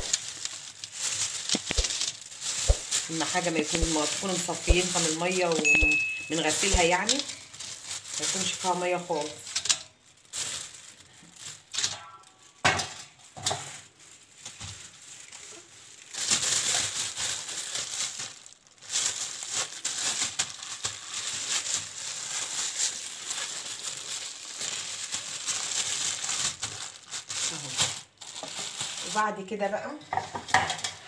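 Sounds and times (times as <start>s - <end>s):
plastic bags crinkling: 0.0s - 29.6s.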